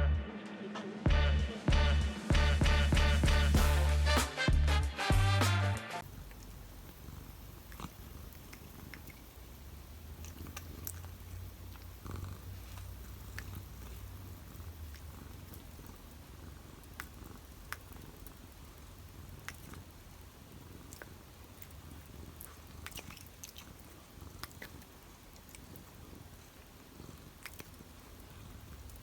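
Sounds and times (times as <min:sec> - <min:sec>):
cat purring: 0:01.7 - 0:04.1, 0:06.0 - 0:29.0.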